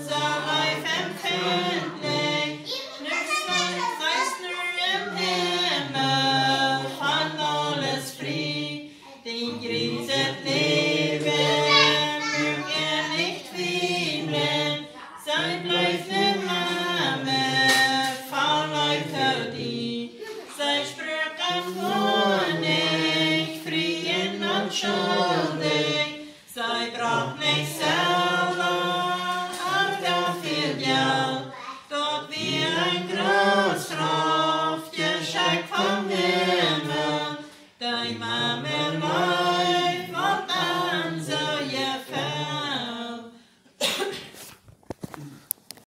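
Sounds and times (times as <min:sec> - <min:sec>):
voices singing in harmony: 0:00.0 - 0:43.4.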